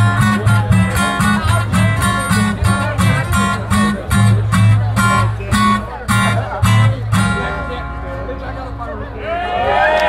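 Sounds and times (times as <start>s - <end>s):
acoustic guitar strumming: 0.0s - 8.8s
heavy pulsing bass line: 0.0s - 9.4s.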